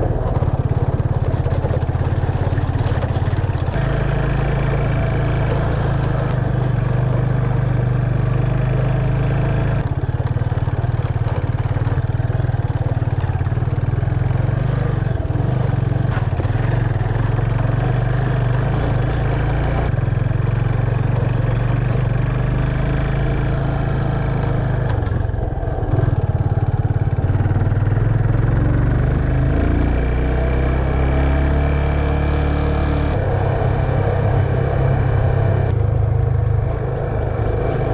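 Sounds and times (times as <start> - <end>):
motorcycle engine running: 0.0 - 37.9
tyre and road noise: 0.0 - 37.9.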